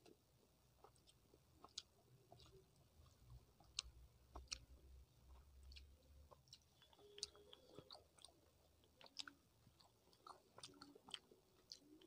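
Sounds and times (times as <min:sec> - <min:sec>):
close chewing: 0:00.0 - 0:12.0.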